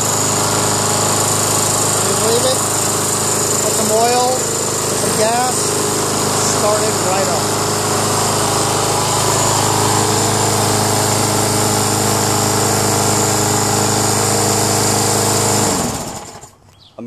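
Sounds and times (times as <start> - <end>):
lawn mower engine running: 0.0 - 16.7.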